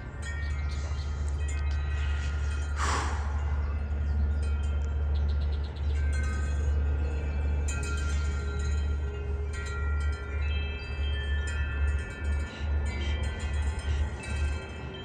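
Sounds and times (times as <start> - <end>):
wind chimes ringing: 0.0 - 15.0
wind rumble on microphone: 0.0 - 15.0.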